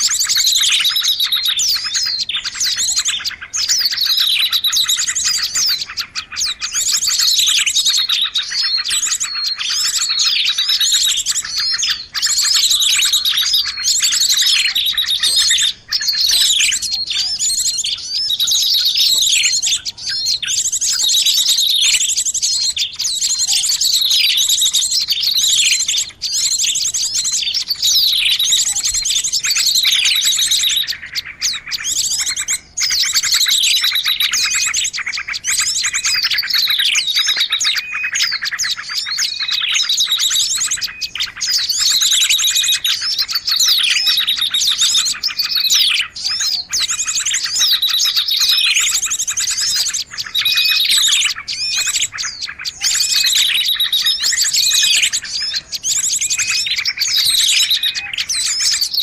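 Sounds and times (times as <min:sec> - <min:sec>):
falling bird call: 0:00.0 - 0:59.0
small birds chirping and twittering: 0:00.0 - 0:59.0.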